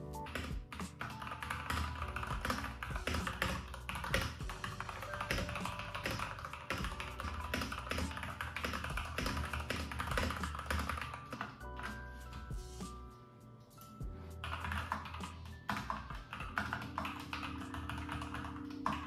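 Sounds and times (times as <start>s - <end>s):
soft background music: 0.0s - 19.0s
mechanical keyboard typing: 0.2s - 11.9s, 14.4s - 19.0s.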